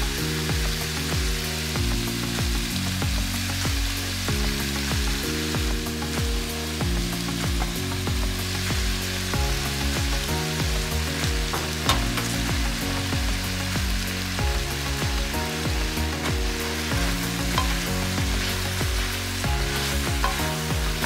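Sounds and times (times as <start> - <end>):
background music with bass line: 0.0 - 21.0
food sizzling in a frying pan: 0.0 - 21.0.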